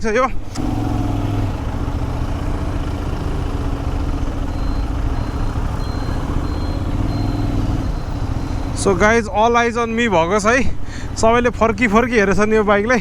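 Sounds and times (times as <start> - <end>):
motorcycle engine idling: 0.5 - 13.0.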